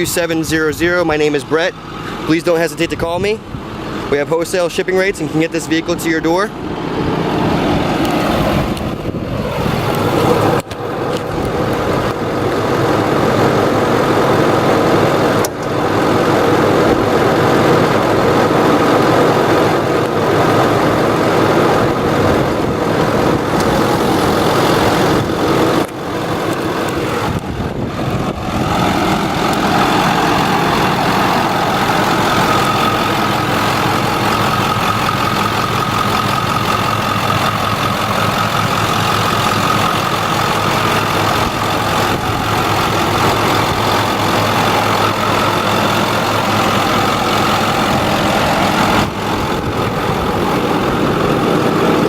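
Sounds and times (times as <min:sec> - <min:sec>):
diesel engine idling: 0:00.0 - 0:52.0
thin steady whine: 0:00.0 - 0:52.0.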